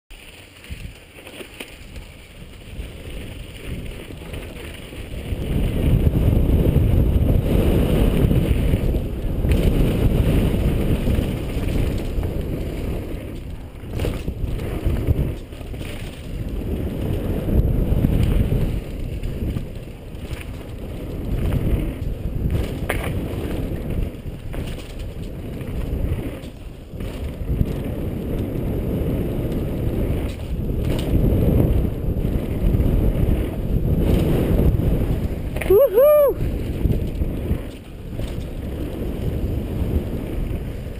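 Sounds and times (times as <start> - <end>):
bike tyre rumble and rattle: 0.1 - 40.9
wind buffeting microphone: 0.6 - 40.9.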